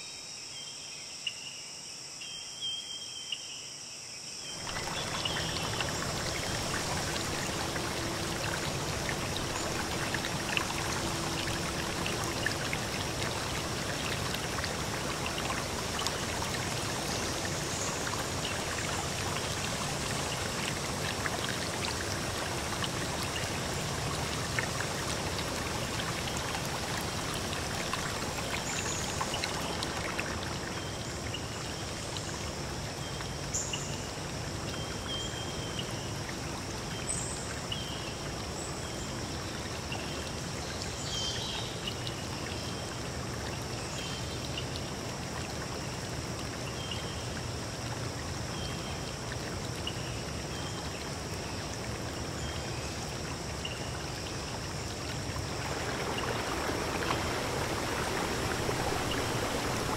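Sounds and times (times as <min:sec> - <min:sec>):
crickets chirping: 0:00.0 - 0:59.9
running water: 0:04.6 - 0:59.9.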